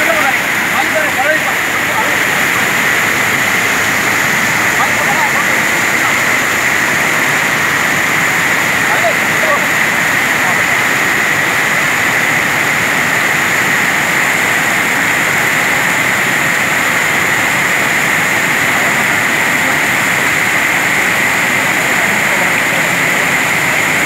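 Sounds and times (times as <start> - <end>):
river rushing over spillway: 0.0 - 24.0.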